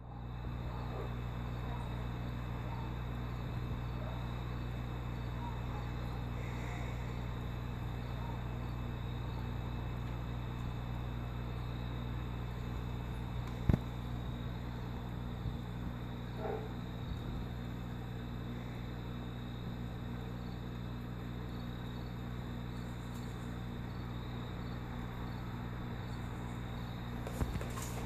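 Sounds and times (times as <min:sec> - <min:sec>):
filter pump motor humming: 0:00.0 - 0:28.0
constant hiss: 0:01.6 - 0:28.0.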